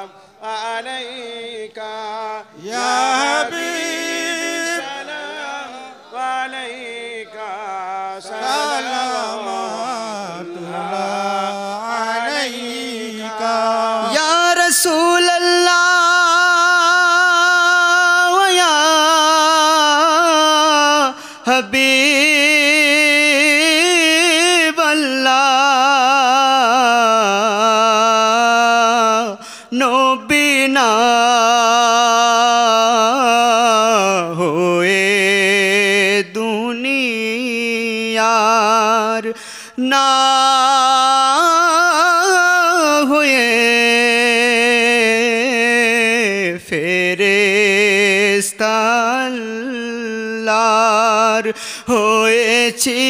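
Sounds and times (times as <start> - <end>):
man singing into a microphone: 0.0 - 53.0.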